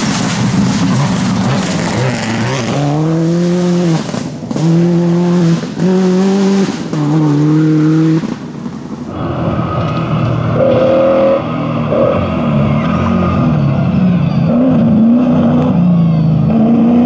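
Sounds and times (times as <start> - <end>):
rushing noise: 0.0 - 16.0
rally car engine at high revs: 0.0 - 17.0.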